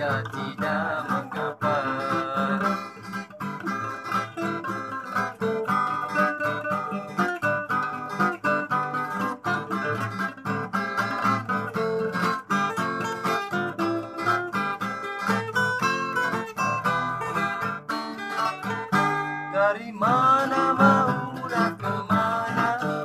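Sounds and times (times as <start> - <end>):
acoustic guitar playing: 0.0 - 23.0.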